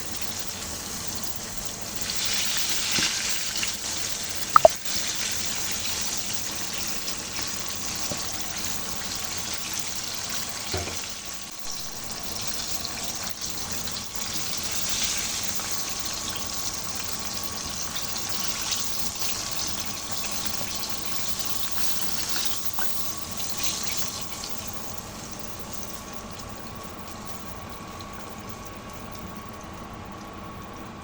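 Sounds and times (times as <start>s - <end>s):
chicken deep-frying in hot oil: 0.0s - 31.0s.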